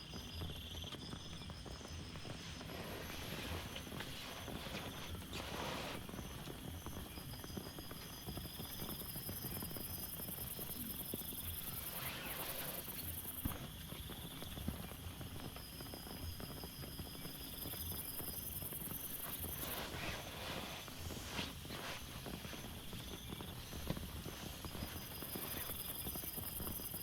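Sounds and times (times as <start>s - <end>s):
steady rain: 1.6s - 27.0s.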